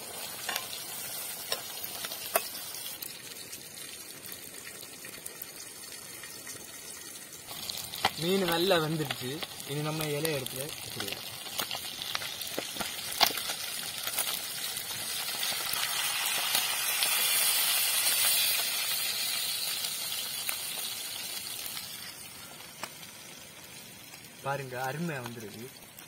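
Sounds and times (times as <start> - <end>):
fish sizzling in a pan: 0.0 - 26.0.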